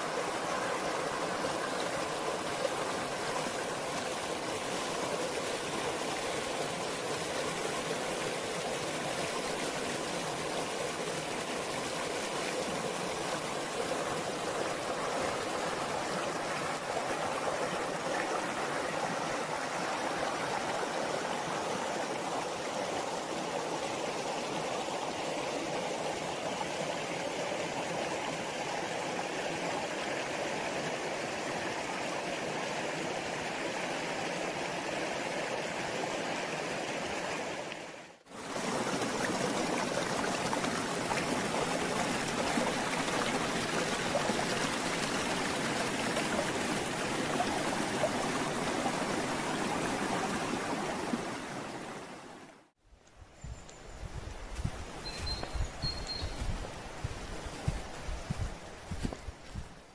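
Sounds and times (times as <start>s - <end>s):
stream rushing over rocks: 0.0s - 52.7s, 54.2s - 59.9s.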